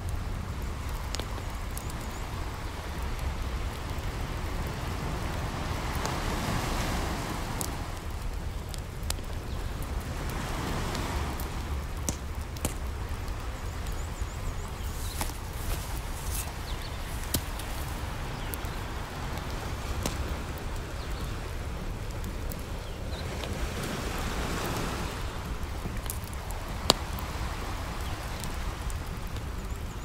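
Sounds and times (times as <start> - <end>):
campfire crackling and popping: 0.0 - 30.0
ocean waves: 0.0 - 30.0.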